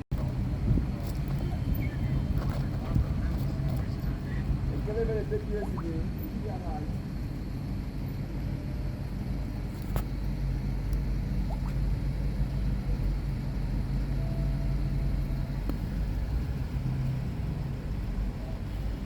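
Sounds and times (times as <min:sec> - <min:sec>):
low motor rumble: 0:00.1 - 0:19.0.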